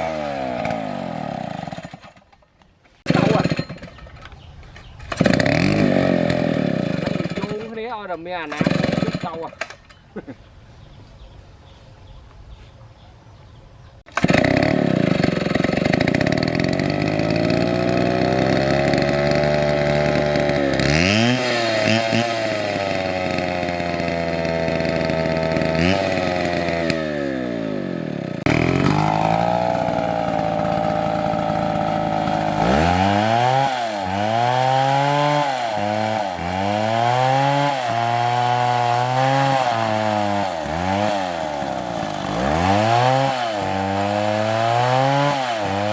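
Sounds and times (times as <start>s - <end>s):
chainsaw revving: 0.0s - 2.3s, 3.0s - 4.1s, 5.1s - 9.8s, 14.1s - 45.9s.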